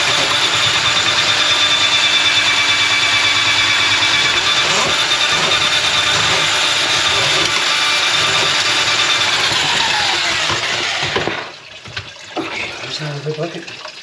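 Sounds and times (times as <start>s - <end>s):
motor whining: 0.0s - 11.5s.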